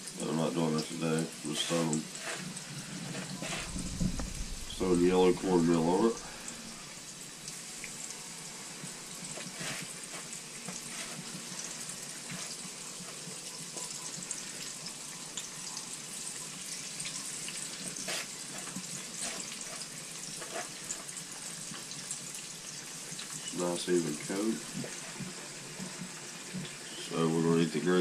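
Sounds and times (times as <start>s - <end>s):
tomato slices frying in grease: 0.0s - 28.0s.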